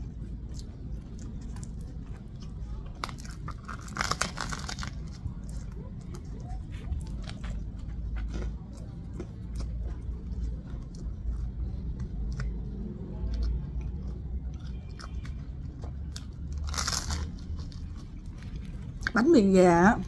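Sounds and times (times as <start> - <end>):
crust crunching: 0.0 - 12.6, 14.5 - 19.4
person chewing crusty bread: 0.0 - 19.4.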